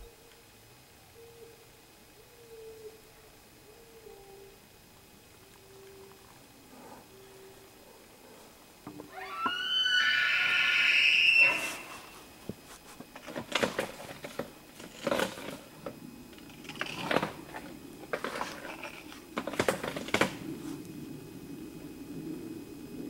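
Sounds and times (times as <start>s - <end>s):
elk bugling: 1.2s - 20.8s.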